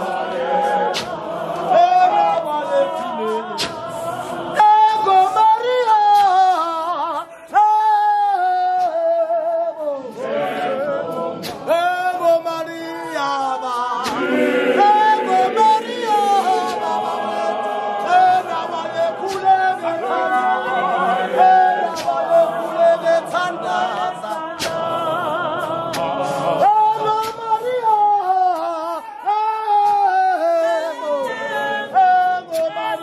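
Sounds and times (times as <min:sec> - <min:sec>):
group singing a hymn a cappella: 0:00.0 - 0:33.0.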